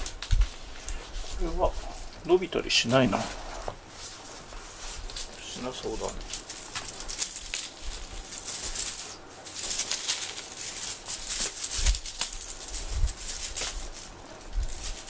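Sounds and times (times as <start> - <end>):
plastic streamers crinkling: 0.0 - 15.0.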